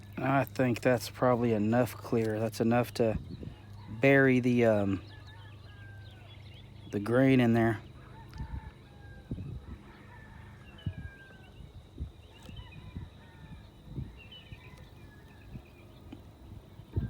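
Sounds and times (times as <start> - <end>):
small birds chirping: 0.0 - 8.2, 10.6 - 17.0.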